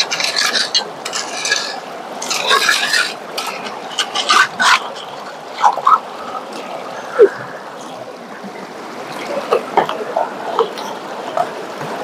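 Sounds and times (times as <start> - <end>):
river water running: 0.0 - 12.0
small splashes and sloshes: 0.0 - 12.0.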